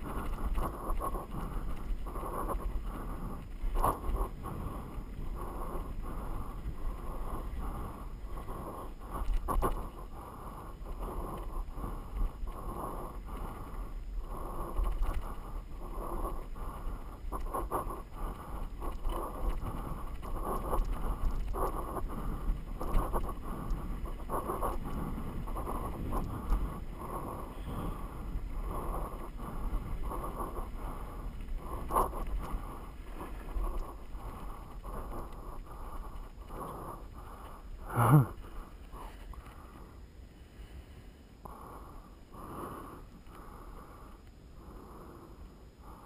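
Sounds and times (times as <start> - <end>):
wind rumbling on microphone: 0.0 - 46.0.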